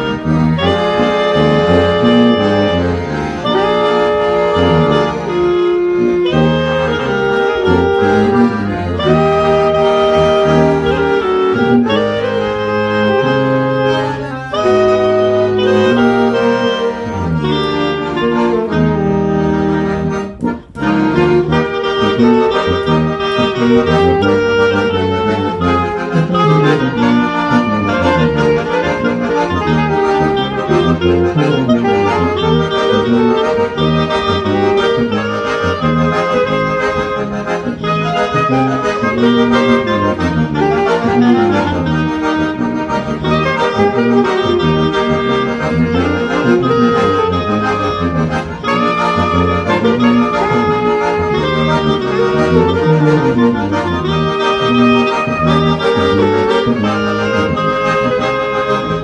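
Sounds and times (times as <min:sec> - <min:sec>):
accordion chords: 0:00.0 - 0:59.0
clarinet and saxophone melody: 0:00.0 - 0:59.0
tuba bass: 0:00.0 - 0:59.0.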